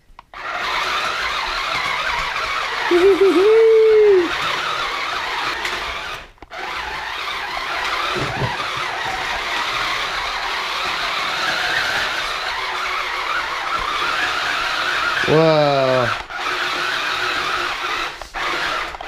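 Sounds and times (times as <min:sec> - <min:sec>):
toy robot motors whirring: 0:00.3 - 0:19.0.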